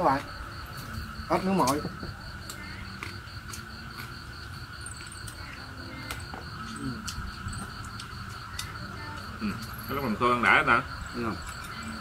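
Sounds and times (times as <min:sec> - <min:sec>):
crickets trilling: 0:00.0 - 0:12.0
high pulsing insect chirp: 0:00.0 - 0:12.0.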